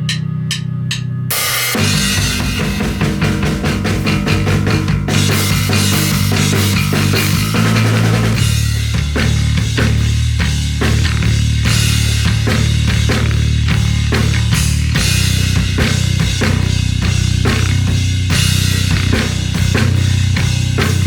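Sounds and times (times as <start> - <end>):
drum kit playing: 0.0 - 21.0
electric bass guitar: 0.0 - 21.0.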